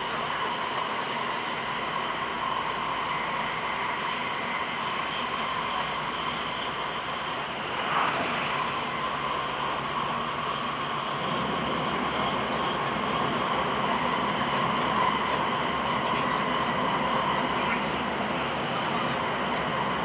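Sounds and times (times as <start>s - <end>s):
train rolling on track: 0.0s - 20.0s.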